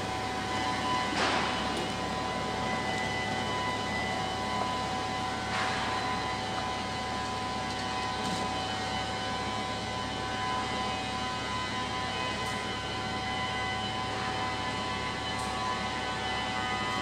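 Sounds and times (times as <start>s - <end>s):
constant high whine: 0.0s - 17.0s.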